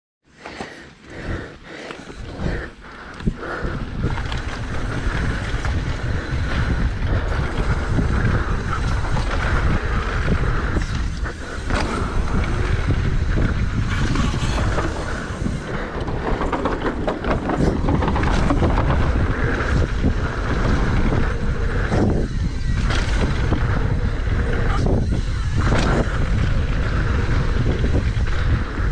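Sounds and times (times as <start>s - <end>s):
bike clattering over bumps: 0.4s - 28.9s
wind over microphone: 1.1s - 28.9s
tyres rumbling on dirt: 2.0s - 28.9s.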